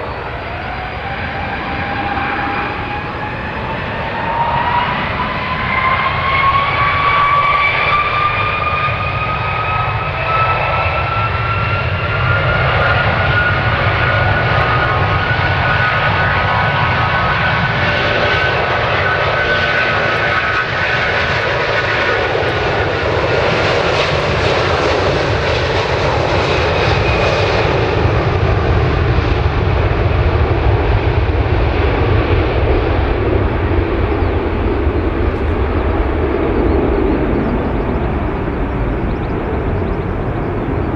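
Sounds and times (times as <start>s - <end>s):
high engine whine: 0.0s - 40.9s
jet engines roaring: 0.0s - 40.9s.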